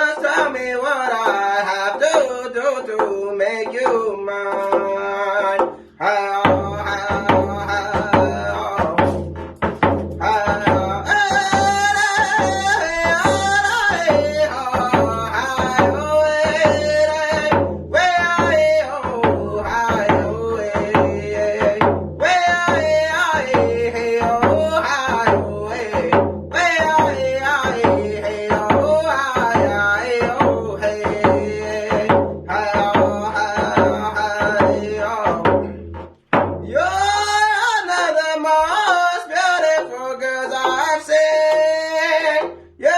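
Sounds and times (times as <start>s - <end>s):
person singing: 0.0s - 9.4s, 10.1s - 35.8s, 36.6s - 42.9s
steady drum beat: 0.0s - 42.9s.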